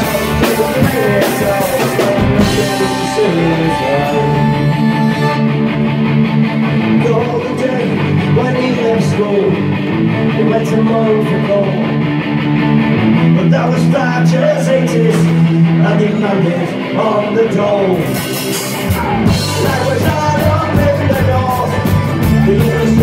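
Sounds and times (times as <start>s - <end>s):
folk-punk band playing live: 0.0s - 23.0s
strummed guitar: 0.0s - 23.0s.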